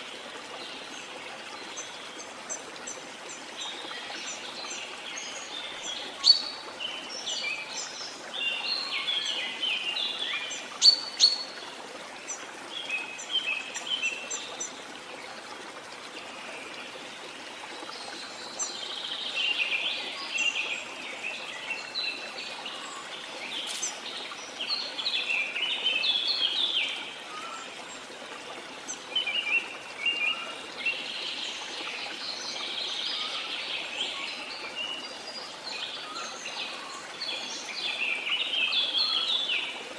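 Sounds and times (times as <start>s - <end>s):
running water hiss: 0.0s - 39.9s.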